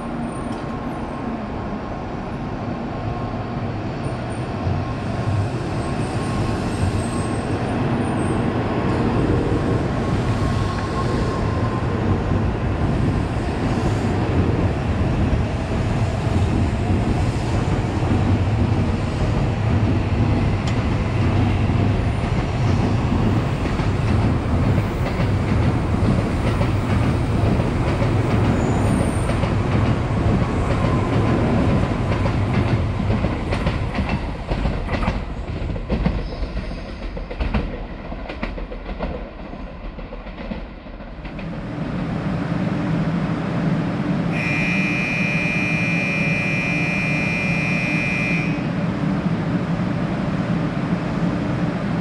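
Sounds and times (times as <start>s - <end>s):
stationary train humming: 0.0s - 36.2s, 37.3s - 52.0s
train passing with heavy rumble: 0.0s - 52.0s.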